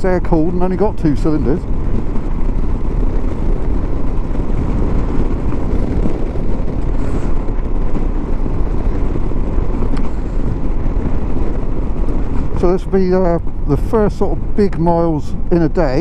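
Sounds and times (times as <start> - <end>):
heavy wind rush: 0.0 - 16.0
motorcycle engine running: 0.0 - 16.0.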